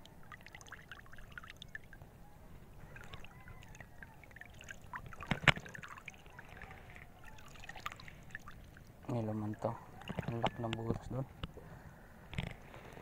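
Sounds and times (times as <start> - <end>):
water lapping and dripping: 0.0 - 11.5.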